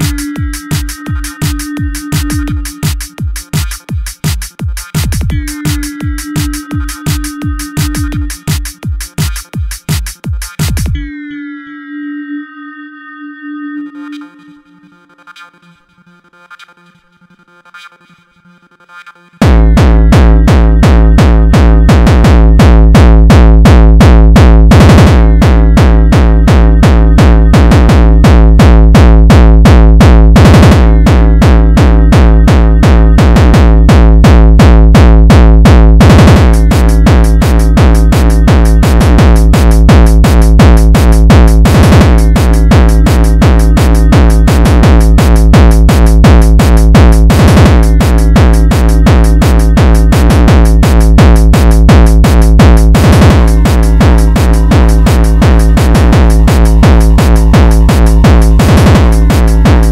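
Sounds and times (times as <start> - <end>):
fast drum-machine beat: 0.0 - 11.0, 14.0 - 59.9
synthesizer acid bass line: 0.0 - 59.9.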